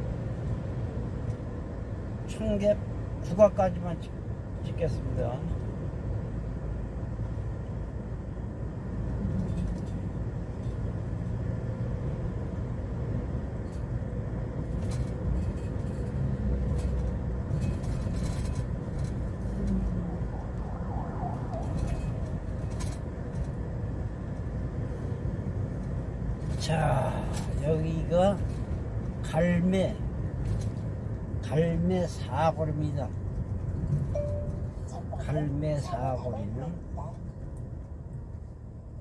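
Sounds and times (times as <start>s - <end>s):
truck engine and road rumble: 0.0s - 39.0s.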